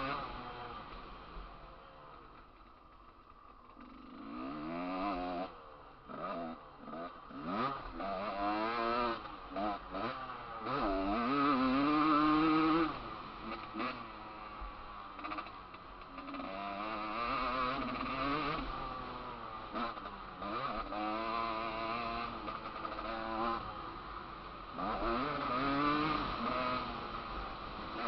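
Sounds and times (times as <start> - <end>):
dirt bike engine revving: 0.0 - 0.9, 3.6 - 28.0.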